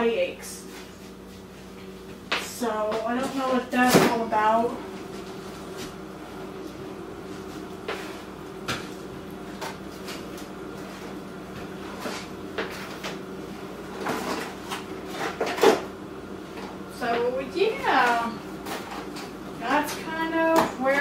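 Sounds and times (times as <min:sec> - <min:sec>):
freezer hum: 0:00.0 - 0:21.0.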